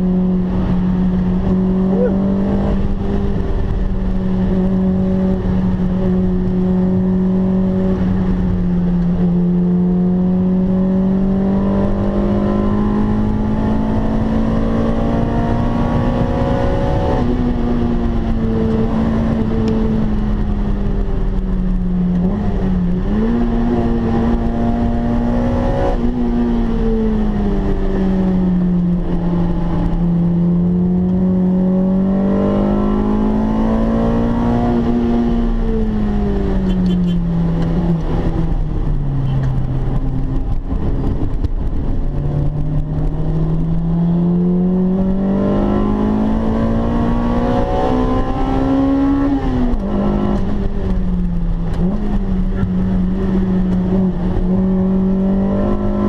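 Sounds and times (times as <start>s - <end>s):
car engine revving: 0.0s - 56.0s
road and tyre noise: 0.0s - 56.0s.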